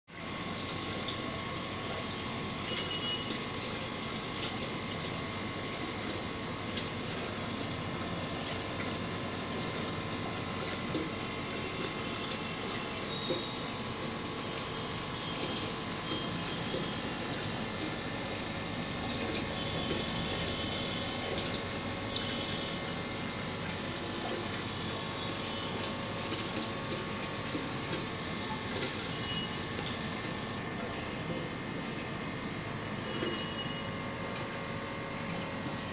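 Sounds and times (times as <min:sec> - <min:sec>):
aquarium filter pump humming: 0:00.1 - 0:35.9.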